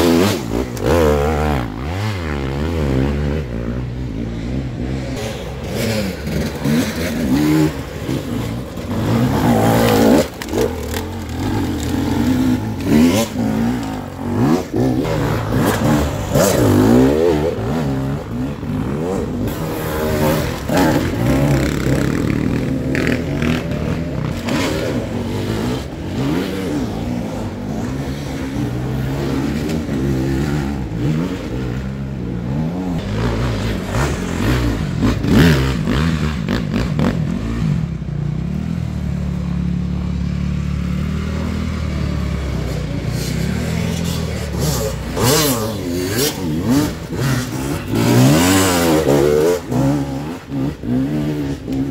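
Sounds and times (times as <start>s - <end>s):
dirt bike engines revving hard: 0.0s - 51.9s.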